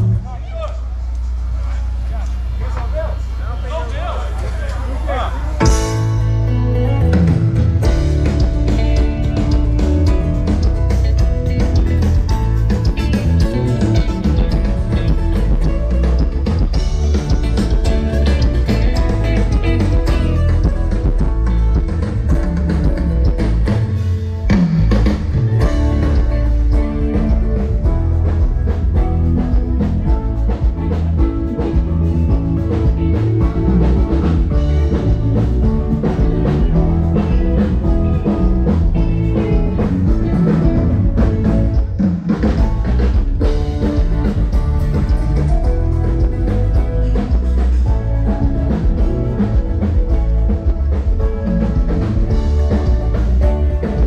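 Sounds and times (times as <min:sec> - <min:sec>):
live band playing loud music: 0:00.0 - 0:00.7, 0:04.0 - 0:54.0.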